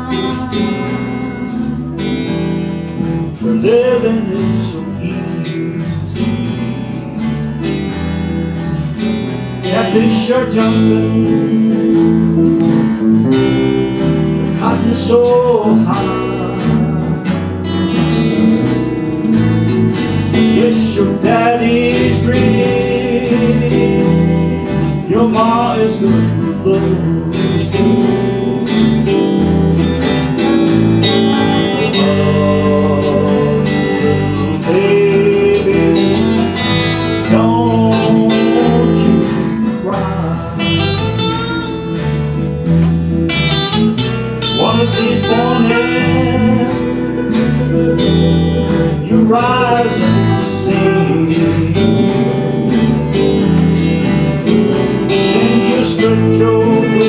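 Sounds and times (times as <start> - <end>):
acoustic string band playing: 5.8 - 57.0.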